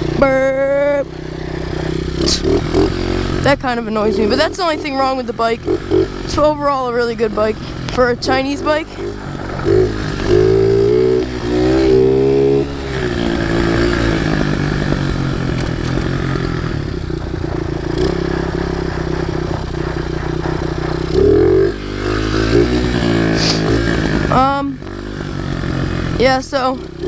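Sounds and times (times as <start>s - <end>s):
small motorcycle engine revving: 0.0s - 27.0s.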